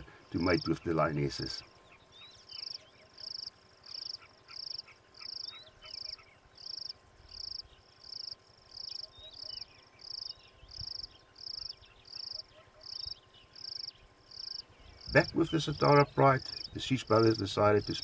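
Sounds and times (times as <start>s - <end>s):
cricket chirping: 0.0s - 18.0s
faint high chirps: 1.6s - 18.0s.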